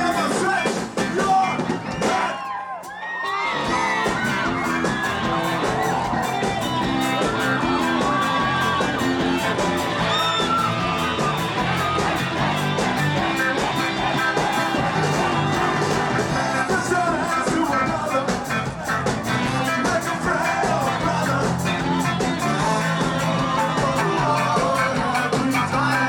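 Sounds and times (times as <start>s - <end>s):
ska band with singing: 0.0s - 26.0s.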